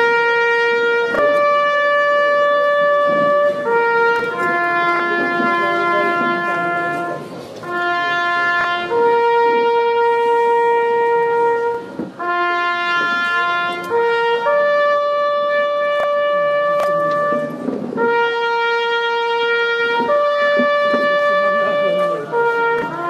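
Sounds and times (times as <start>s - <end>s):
wind band playing held notes: 0.0s - 23.0s.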